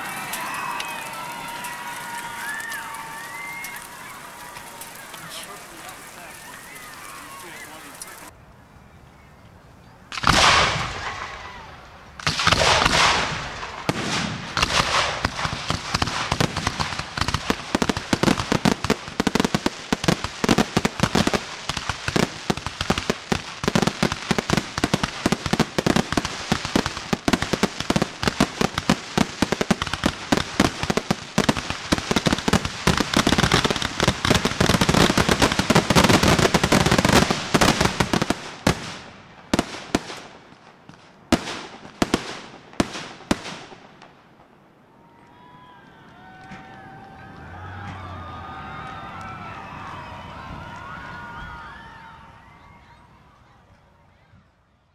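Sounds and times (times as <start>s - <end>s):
fireworks bangs: 0.0s - 8.3s, 10.1s - 52.3s.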